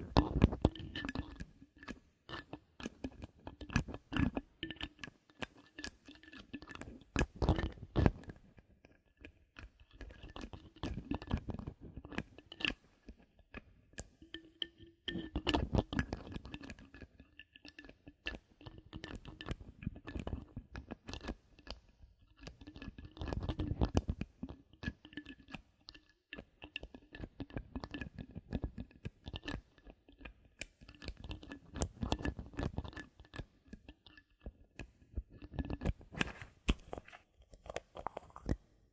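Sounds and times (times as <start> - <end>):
bottle caps clicking and scratching: 0.0 - 38.7.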